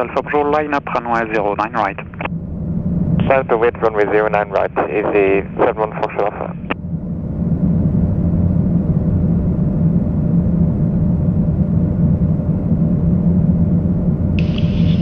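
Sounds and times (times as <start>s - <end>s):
cockpit airflow and engine rumble: 0.0s - 15.0s
faint steady hum: 0.0s - 15.0s.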